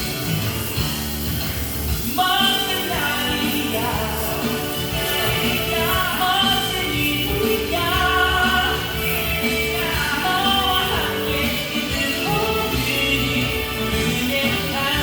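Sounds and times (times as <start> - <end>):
song with sung melody: 0.0 - 15.0.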